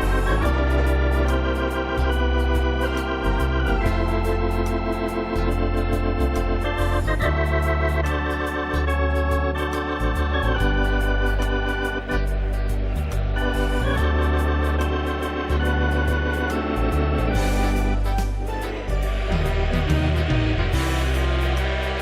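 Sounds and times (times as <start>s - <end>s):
electronic organ chords: 0.0s - 22.0s
light ticking rhythm: 0.0s - 22.0s.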